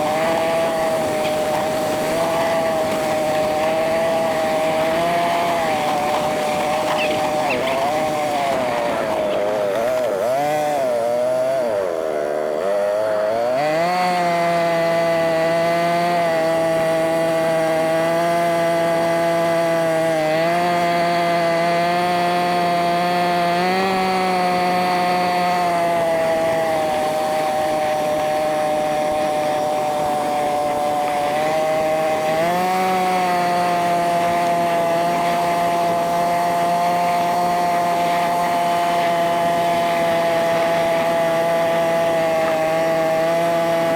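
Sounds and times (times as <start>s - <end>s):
atv engine running under throttle: 0.0s - 43.9s.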